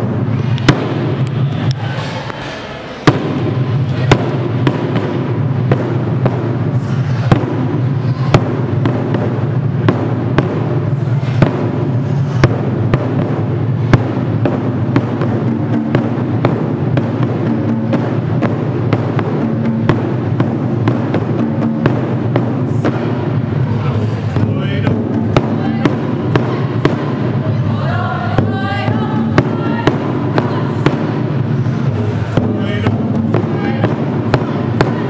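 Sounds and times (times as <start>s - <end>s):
large drum struck in hard beats: 0.0s - 2.2s, 2.9s - 35.0s
fast ensemble drumming: 3.0s - 35.0s.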